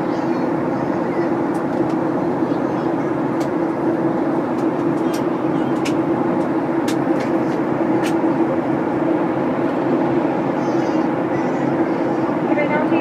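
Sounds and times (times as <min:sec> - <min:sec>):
jet engine cabin drone: 0:00.0 - 0:13.0.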